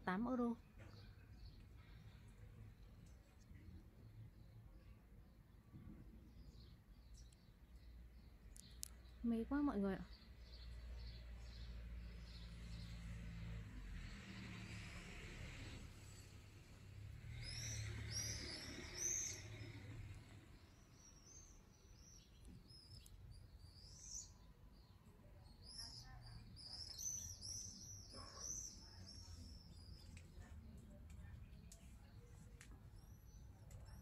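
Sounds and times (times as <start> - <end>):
songbirds chirping: 0.0 - 34.0.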